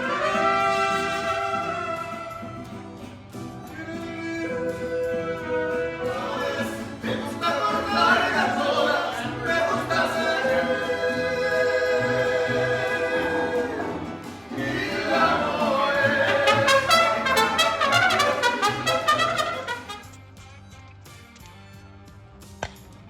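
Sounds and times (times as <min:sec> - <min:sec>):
orchestral music with singing and brass: 0:00.0 - 0:02.7, 0:04.2 - 0:20.2.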